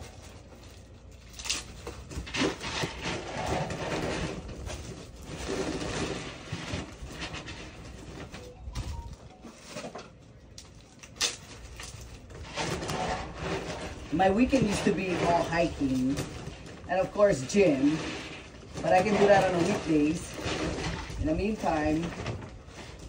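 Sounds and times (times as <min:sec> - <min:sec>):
cat food rustling and rattling: 0:00.0 - 0:23.0.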